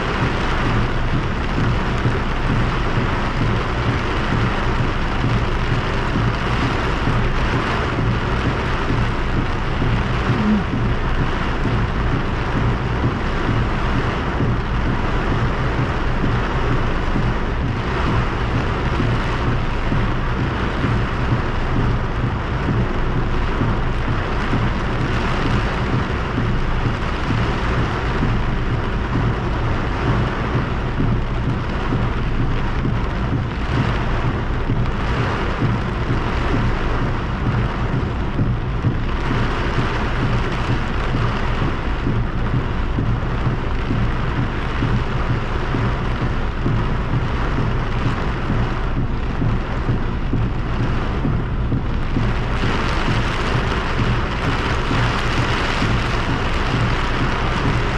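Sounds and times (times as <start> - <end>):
heavy rain on car roof: 0.0 - 57.9
low hum: 0.0 - 57.9.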